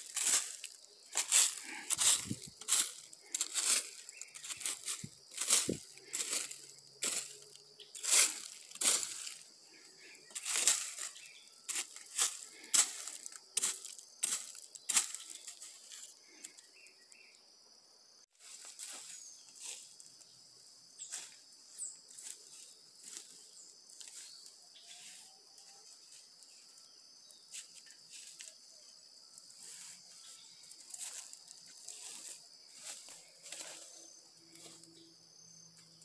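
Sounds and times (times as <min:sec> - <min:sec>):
footsteps crunching through dry leaves: 0:00.0 - 0:16.5, 0:18.3 - 0:20.2, 0:21.0 - 0:26.8, 0:27.4 - 0:28.7, 0:29.4 - 0:35.1
high insect drone: 0:00.0 - 0:36.0.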